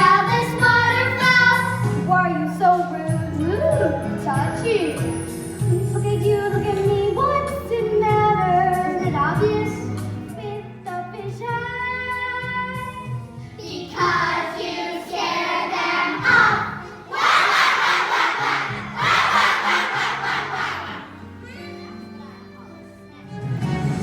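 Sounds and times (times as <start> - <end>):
children singing with accompaniment: 0.0 - 22.1.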